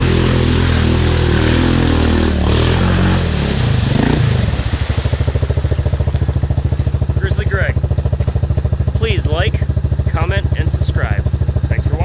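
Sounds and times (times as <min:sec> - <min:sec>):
off-road vehicle engine idling: 0:00.0 - 0:12.0.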